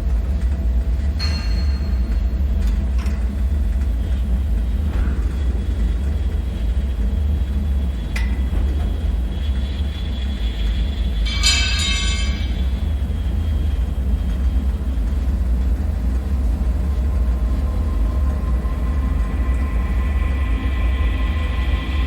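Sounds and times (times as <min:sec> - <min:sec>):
deep ambient drone: 0:00.0 - 0:22.0
high ringing whine: 0:00.0 - 0:22.0.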